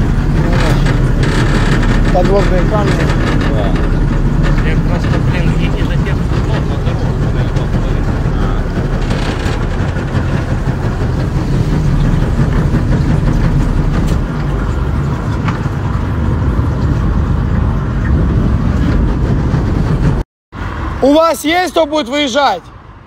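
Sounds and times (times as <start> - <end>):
outboard motor droning: 0.0 - 21.2.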